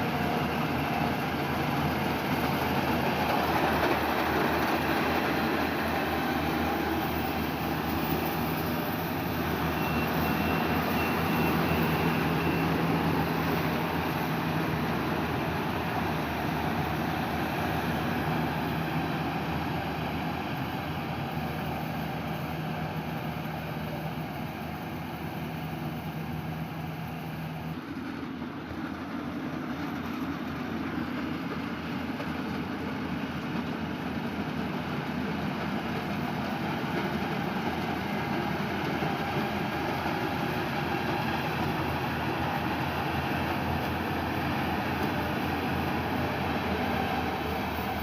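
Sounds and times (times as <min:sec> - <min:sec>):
harvest machinery running: 0:00.0 - 0:48.0.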